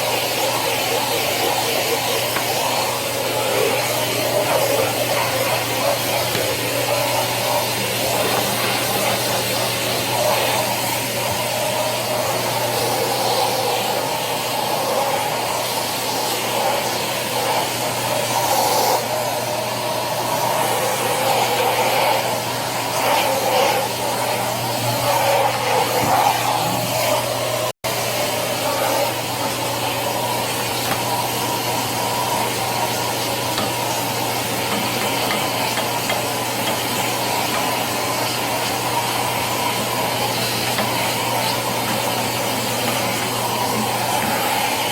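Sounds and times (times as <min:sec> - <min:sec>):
polishing machine grinding marble: 0:00.0 - 0:44.9.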